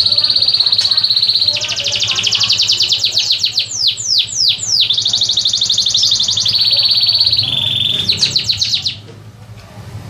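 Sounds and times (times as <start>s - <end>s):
songbird trilling: 0.0s - 9.0s.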